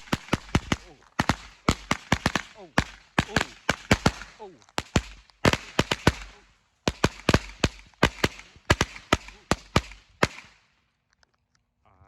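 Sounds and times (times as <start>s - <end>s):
firework cracks: 0.0s - 10.8s.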